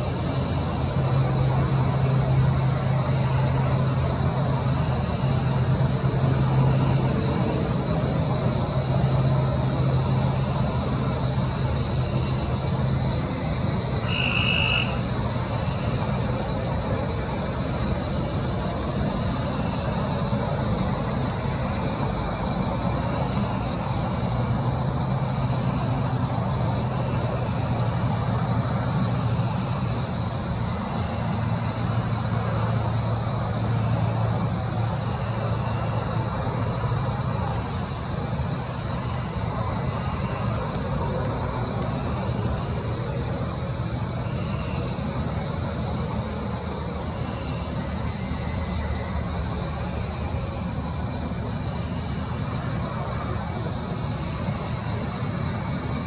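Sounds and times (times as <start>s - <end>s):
insects trilling: 0.0s - 56.0s
short high insect call: 8.3s - 56.0s.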